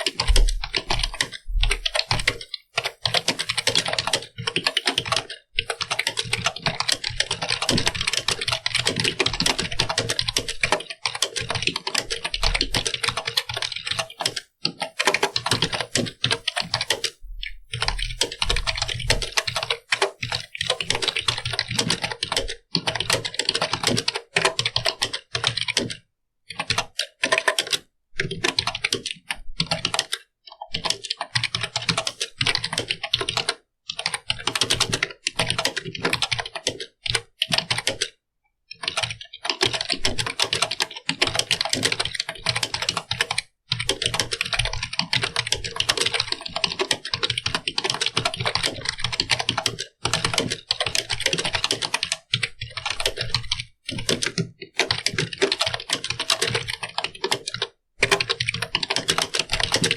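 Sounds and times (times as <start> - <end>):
fast typing on computer keyboard: 0.0 - 59.9.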